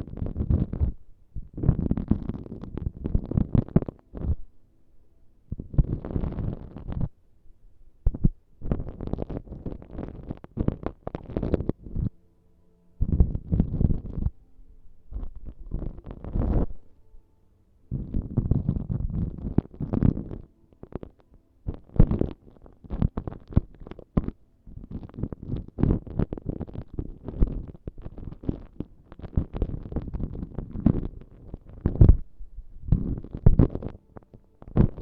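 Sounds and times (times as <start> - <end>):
scratching and rubbing on microphone: 0.0 - 4.5, 5.5 - 7.2, 8.0 - 12.2, 13.0 - 14.4, 15.1 - 16.8, 17.9 - 32.3, 32.9 - 35.0.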